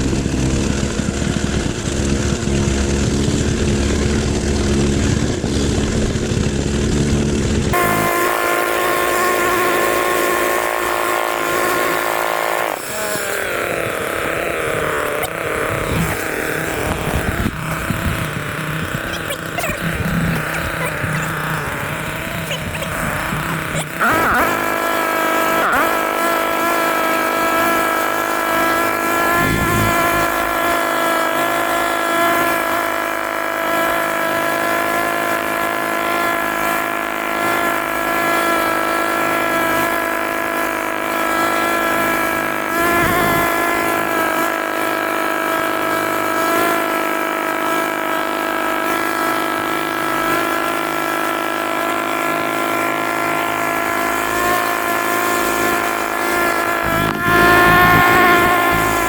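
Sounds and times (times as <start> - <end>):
earthmoving machine engine running: 0.0 - 59.0.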